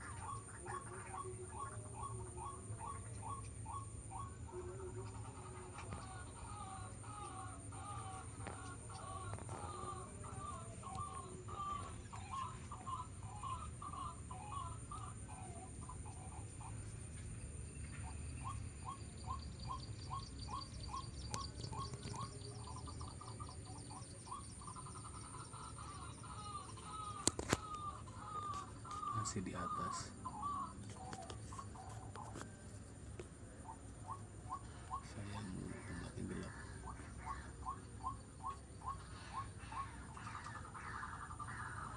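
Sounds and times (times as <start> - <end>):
bird calls: 0.0 - 41.9.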